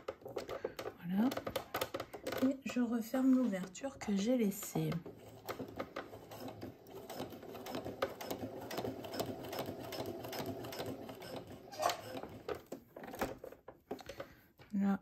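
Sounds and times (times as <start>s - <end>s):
sewing machine stitching: 0.0s - 13.6s.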